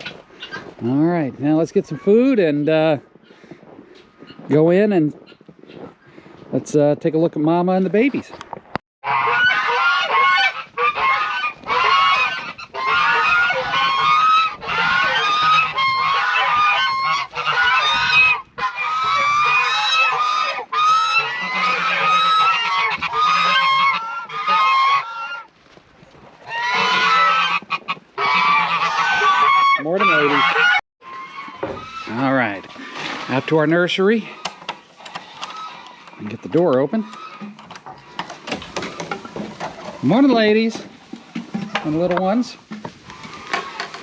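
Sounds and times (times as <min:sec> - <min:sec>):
waterfowl flock calling: 0:00.0 - 0:06.3, 0:09.0 - 0:25.6, 0:26.4 - 0:44.0.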